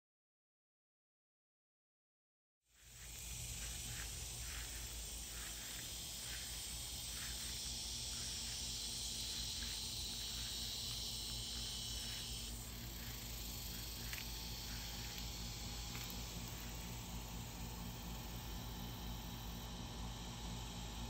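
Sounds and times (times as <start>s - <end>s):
high insect hiss: 2.7s - 21.0s
steady low hum: 2.7s - 21.0s.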